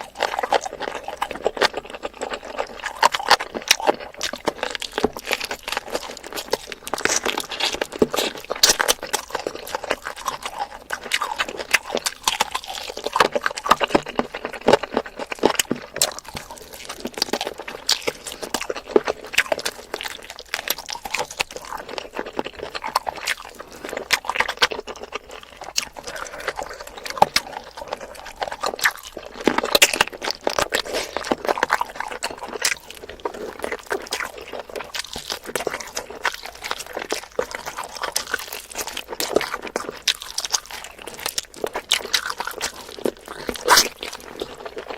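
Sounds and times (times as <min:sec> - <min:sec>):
wet chewing and smacking: 0:00.0 - 0:44.9.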